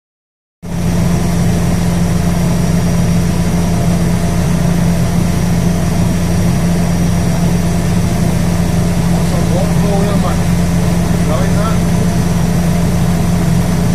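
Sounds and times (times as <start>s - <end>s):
boat engine humming: 0.6s - 13.9s.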